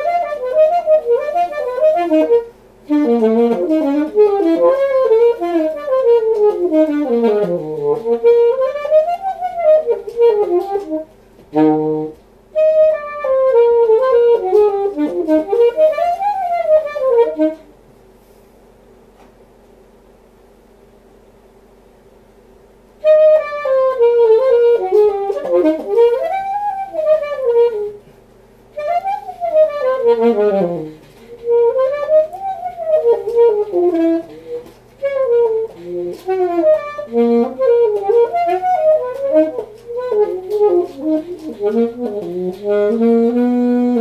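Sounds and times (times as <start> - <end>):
alto saxophone playing fast runs: 0.0 - 17.8, 23.0 - 44.0.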